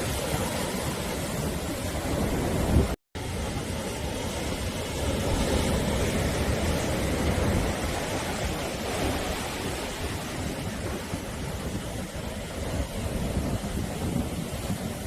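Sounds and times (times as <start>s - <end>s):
sea waves surf rushing: 0.0s - 15.0s.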